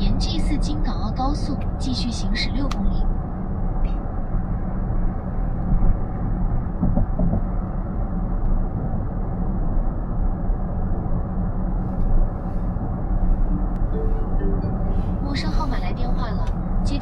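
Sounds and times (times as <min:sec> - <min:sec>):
road and tyre noise inside car: 0:00.0 - 0:17.0.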